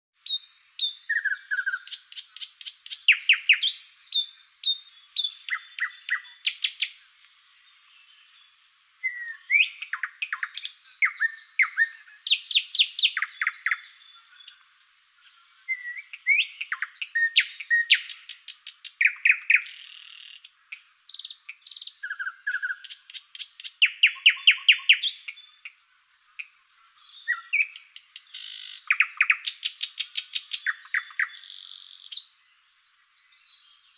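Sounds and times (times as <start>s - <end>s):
songbirds chirping: 0.1s - 33.9s.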